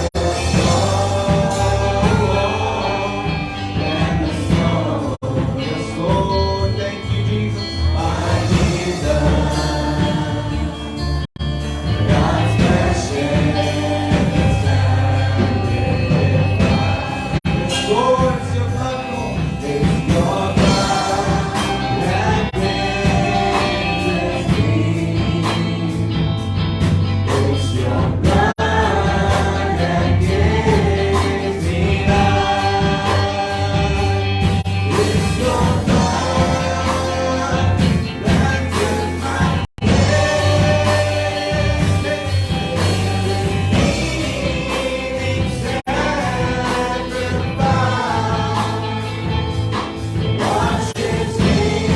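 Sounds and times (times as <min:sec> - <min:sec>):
band playing worship music: 0:00.0 - 0:51.9
steady bass: 0:00.0 - 0:51.9
voices singing together: 0:00.0 - 0:51.9.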